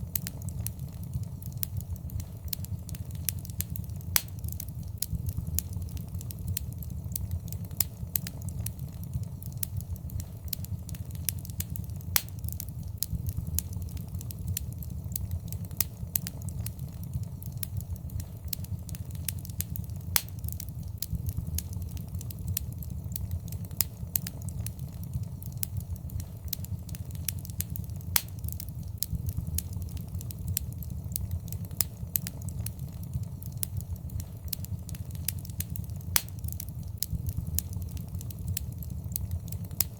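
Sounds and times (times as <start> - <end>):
flames rumbling: 0.0 - 39.9
wood fire crackling and popping: 0.0 - 39.9.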